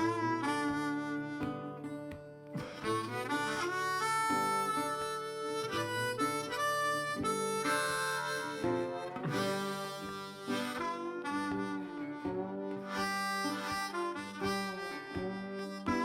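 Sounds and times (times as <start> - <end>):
harmonica melody: 0.0 - 16.0.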